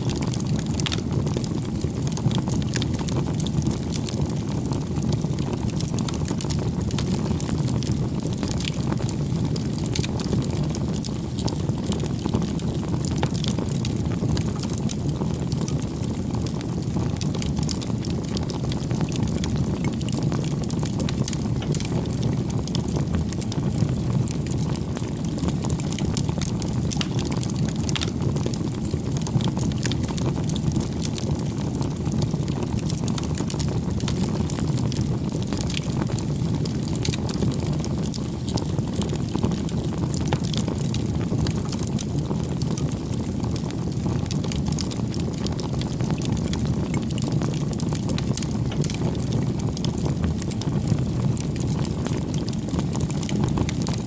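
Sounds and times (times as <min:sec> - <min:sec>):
flames rumbling: 0:00.0 - 0:54.0
wood crackling and popping: 0:00.0 - 0:54.0.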